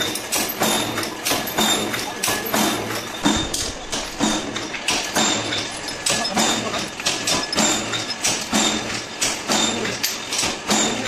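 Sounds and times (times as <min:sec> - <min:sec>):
power press clanking: 0:00.0 - 0:11.0.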